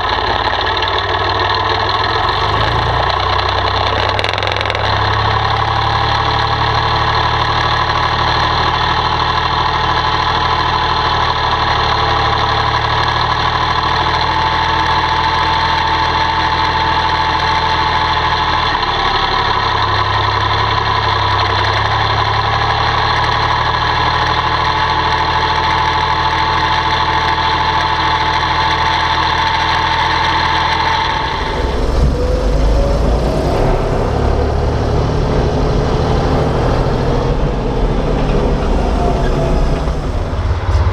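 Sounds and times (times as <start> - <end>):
tractor diesel engine running: 0.0 - 40.9
whining tone: 0.0 - 40.9.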